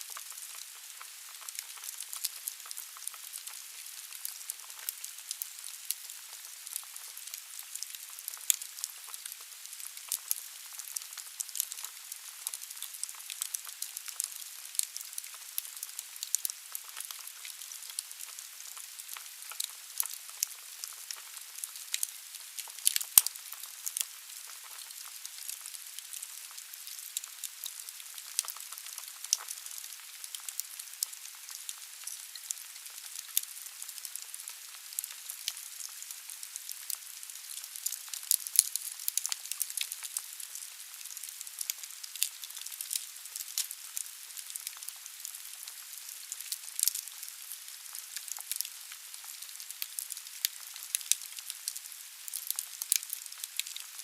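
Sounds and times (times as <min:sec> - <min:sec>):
wood fire crackling and popping: 0:00.1 - 0:53.8.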